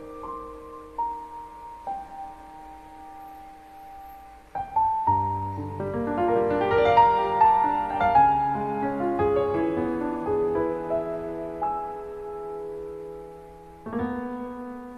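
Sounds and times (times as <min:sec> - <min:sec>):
soft piano music: 0:00.0 - 0:14.9.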